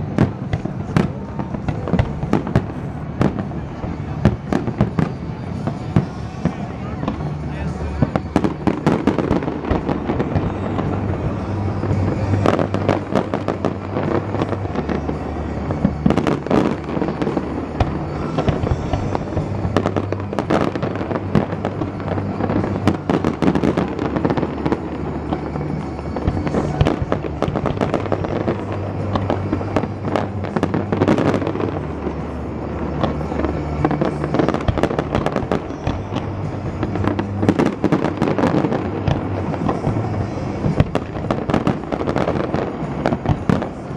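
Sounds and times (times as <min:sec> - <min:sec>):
fireworks bangs and crackling: 0:00.0 - 0:43.9
music with steady bass: 0:00.0 - 0:43.9.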